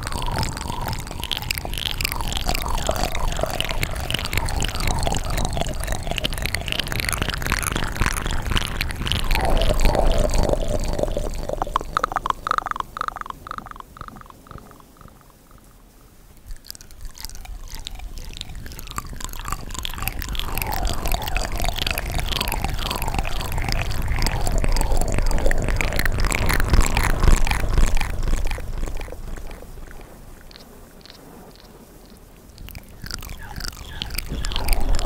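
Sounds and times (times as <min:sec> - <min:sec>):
wet mouth clicks and smacks: 0:00.0 - 0:15.7, 0:16.4 - 0:35.0.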